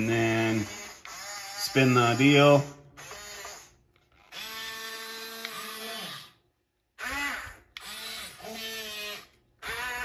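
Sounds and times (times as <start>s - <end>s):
small electric motors whining: 0.0s - 6.4s, 7.0s - 10.0s.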